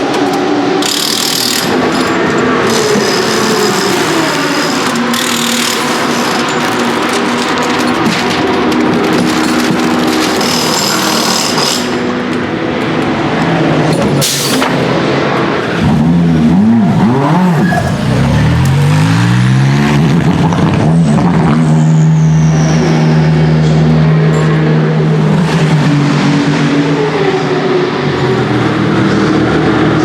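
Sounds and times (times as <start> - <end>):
race car engine passing: 1.6 - 30.0.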